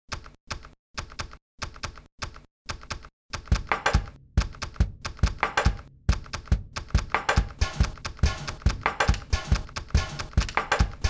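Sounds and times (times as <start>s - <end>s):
rapid keyboard typing: 0.1s - 11.0s.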